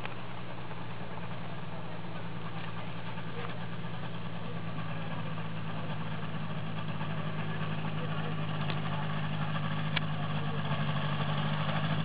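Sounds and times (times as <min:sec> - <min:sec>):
ultralight engine running: 0:00.0 - 0:12.0.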